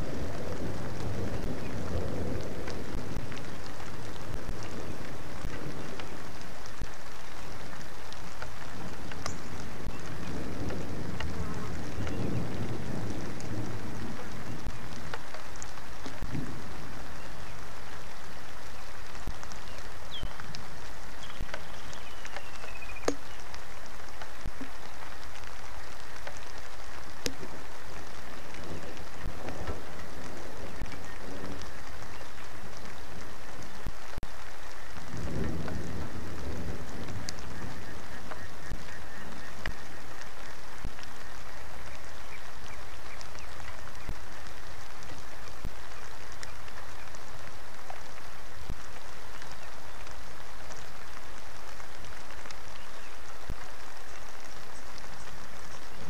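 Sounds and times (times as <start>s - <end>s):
raindrops ticking on surfaces: 0.0s - 56.0s
steady rain hiss: 0.0s - 56.0s.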